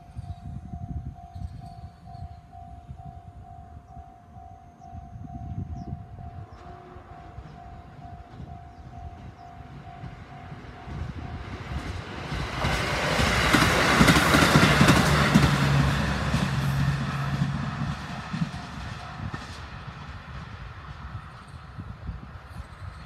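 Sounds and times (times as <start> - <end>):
diesel train engine hum: 0.0 - 23.0
train wheels clacking on rails: 1.2 - 23.0.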